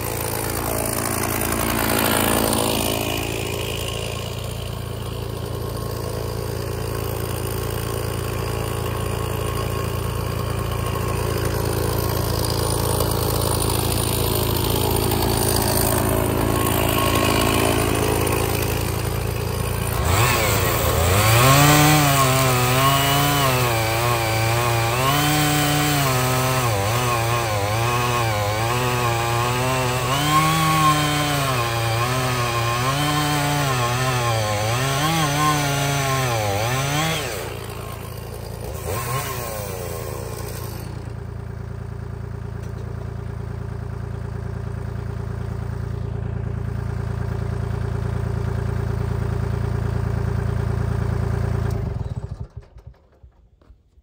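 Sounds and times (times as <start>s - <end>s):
chainsaw cutting log: 0.0s - 43.3s.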